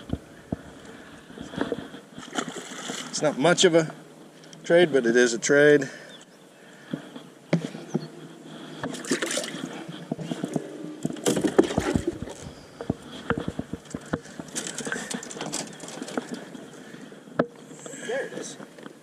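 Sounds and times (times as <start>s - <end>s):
water splashing and sloshing: 0.0s - 4.6s, 6.9s - 17.8s.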